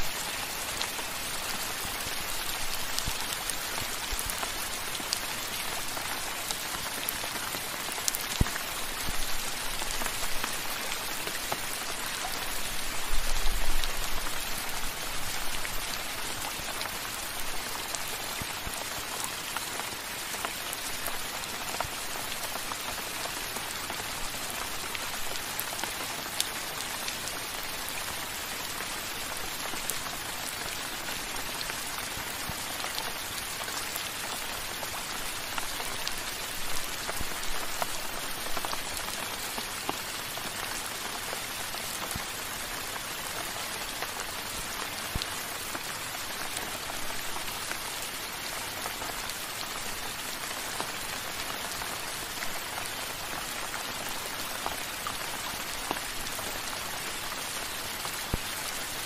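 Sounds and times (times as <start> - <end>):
louder raindrops: 0.0 - 59.0.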